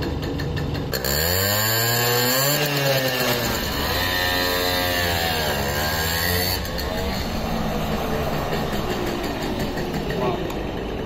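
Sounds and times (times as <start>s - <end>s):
moped engine revving: 0.0s - 11.0s.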